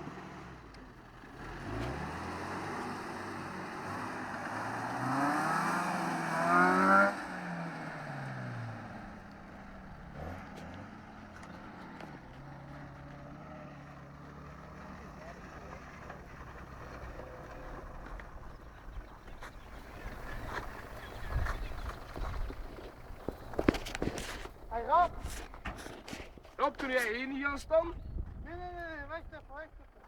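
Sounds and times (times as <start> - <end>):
vehicle engine revving: 0.0 - 26.7.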